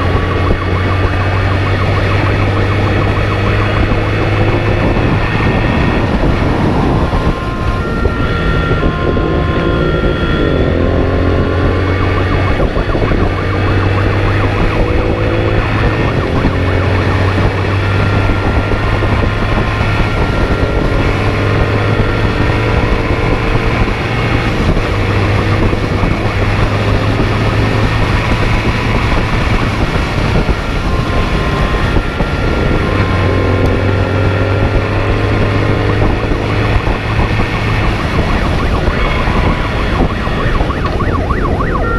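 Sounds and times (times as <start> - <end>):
motorcycle engine accelerating: 0.0 - 41.9
two-tone siren: 0.0 - 41.9
wind and road noise: 0.0 - 41.9.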